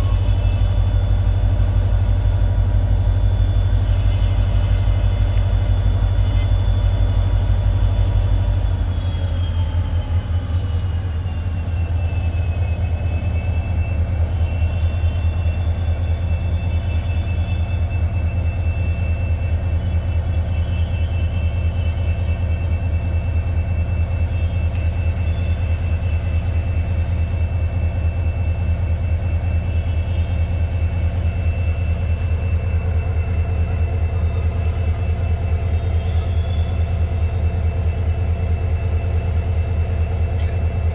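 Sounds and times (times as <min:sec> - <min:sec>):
high whine: 0:00.0 - 0:40.9
locomotive low drone: 0:00.0 - 0:40.9.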